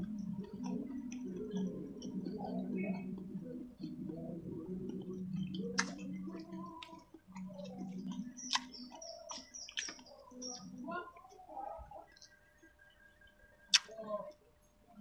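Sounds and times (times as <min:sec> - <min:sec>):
low humming sound: 0:00.0 - 0:15.0
chewing with wet mouth clicks: 0:00.1 - 0:03.2, 0:03.8 - 0:11.3, 0:12.1 - 0:13.9.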